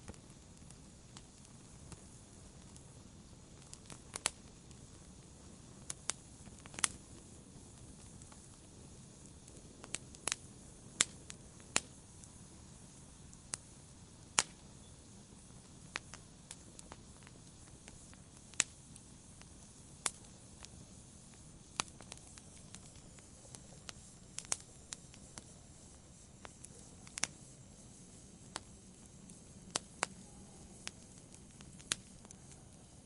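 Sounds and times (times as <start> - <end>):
soft hiss of burning: 0.0 - 33.0
wood fire crackling and popping: 0.0 - 33.0.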